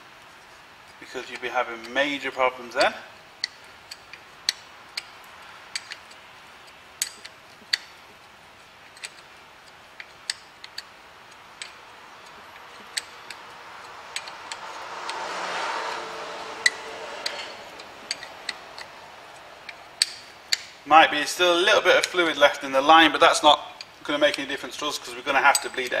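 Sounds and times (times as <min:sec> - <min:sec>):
hand ratchet clicking: 0:00.3 - 0:20.8, 0:21.8 - 0:22.4, 0:23.7 - 0:26.0.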